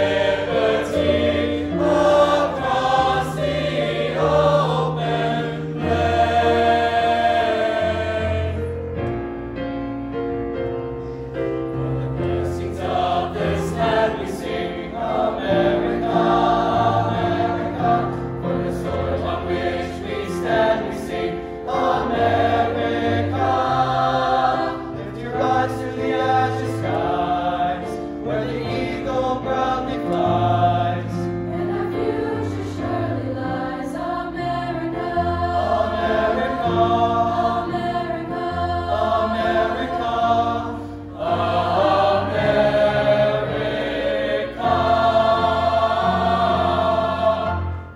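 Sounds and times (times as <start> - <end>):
choir singing in parts: 0.0 - 9.0, 11.3 - 47.9.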